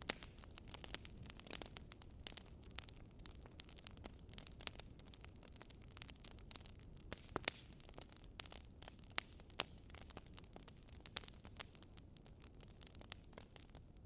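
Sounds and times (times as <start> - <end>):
faint steady hiss: 0.0 - 14.0
firewood crackling and popping: 0.0 - 14.0.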